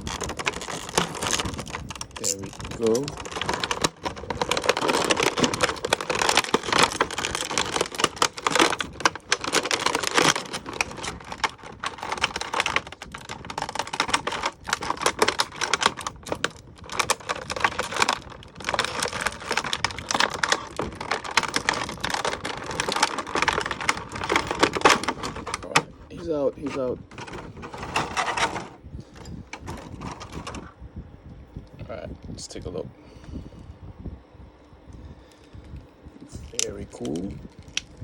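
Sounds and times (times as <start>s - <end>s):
plastic packaging crinkling: 0.0s - 28.6s, 29.6s - 30.7s, 36.4s - 38.0s.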